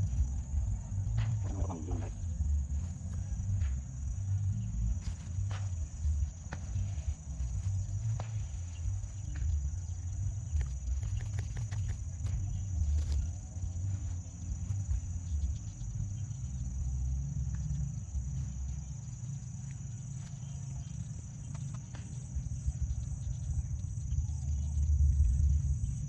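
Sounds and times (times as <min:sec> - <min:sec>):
high-pitched insect drone: 0:00.0 - 0:26.0
low uneven rumble: 0:00.0 - 0:26.0.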